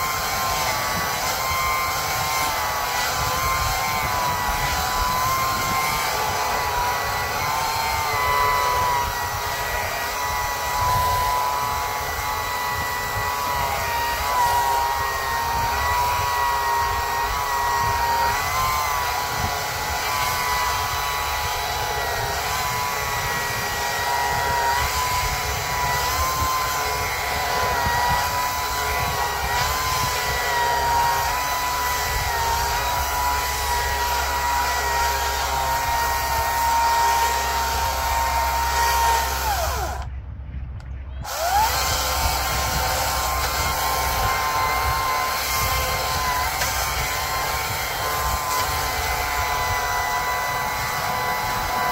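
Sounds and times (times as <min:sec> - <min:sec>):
motor whining: 0:00.0 - 0:40.2, 0:41.2 - 0:51.9.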